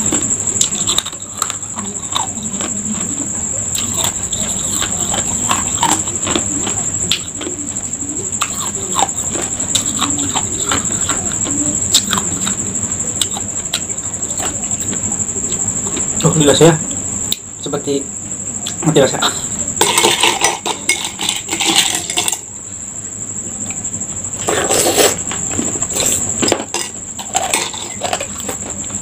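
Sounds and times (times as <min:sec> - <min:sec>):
steady high-pitched whine: 0:00.0 - 0:29.0.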